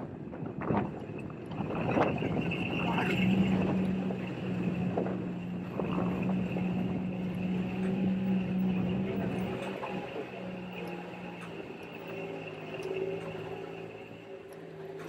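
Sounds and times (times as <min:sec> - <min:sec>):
knocks and rattles over bumps: 0:00.1 - 0:15.0
car engine running: 0:01.3 - 0:15.0.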